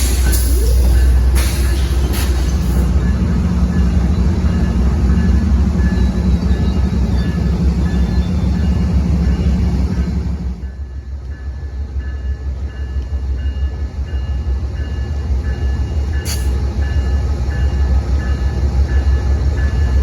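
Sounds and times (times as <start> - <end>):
rail noise: 0.0 - 20.0
train engine drone: 0.0 - 20.0.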